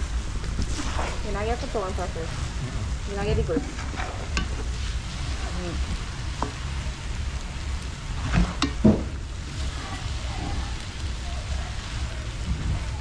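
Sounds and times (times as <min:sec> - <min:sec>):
noodles sizzling in a pot: 0:00.0 - 0:13.0.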